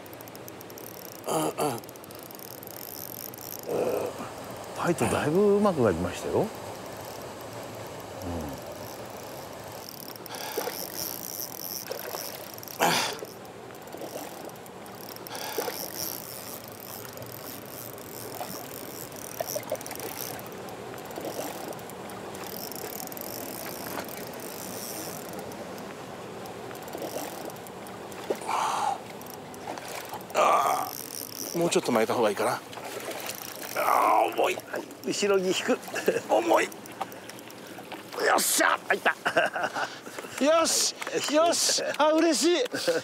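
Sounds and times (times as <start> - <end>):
fish splashing and thrashing: 0.0 - 5.6, 6.5 - 38.6
fishing reel whirring and clicking: 0.0 - 38.2.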